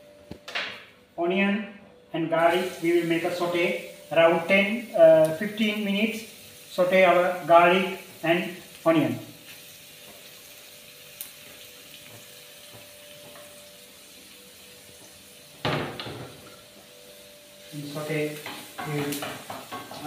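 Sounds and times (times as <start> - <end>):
onion and garlic sizzling: 2.3 - 20.0.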